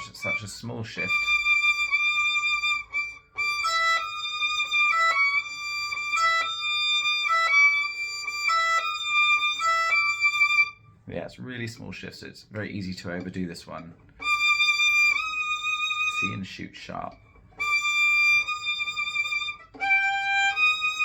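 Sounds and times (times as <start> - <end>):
solo violin playing: 0.0 - 10.9, 14.2 - 16.6, 17.2 - 21.0.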